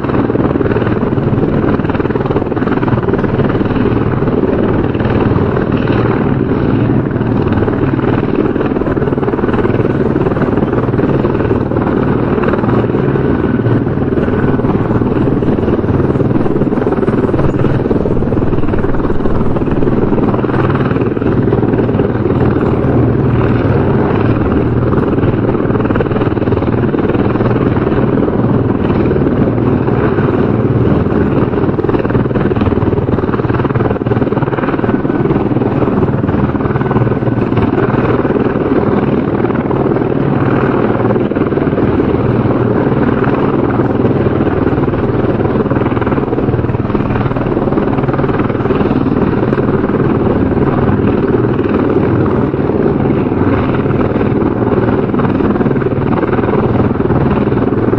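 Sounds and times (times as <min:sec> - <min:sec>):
helicopter rotor chopping: 0:00.0 - 0:57.9.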